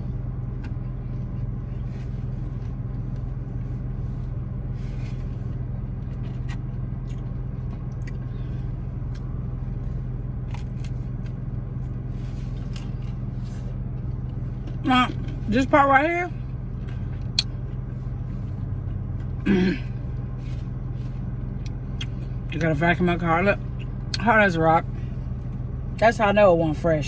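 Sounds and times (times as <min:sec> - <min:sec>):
car cabin low hum: 0:00.0 - 0:27.0.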